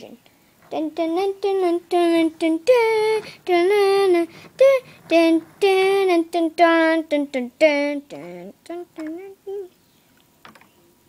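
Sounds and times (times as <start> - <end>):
child singing: 0.0 - 9.8.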